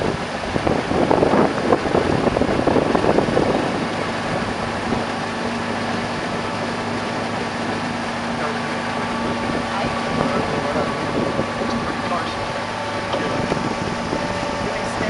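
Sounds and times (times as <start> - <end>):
outboard motor running: 0.0 - 15.0
steady hum: 0.0 - 15.0.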